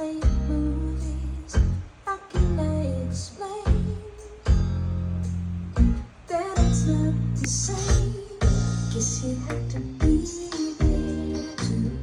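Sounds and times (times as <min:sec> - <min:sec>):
pop song over loudspeakers: 0:00.0 - 0:04.7, 0:05.8 - 0:12.0.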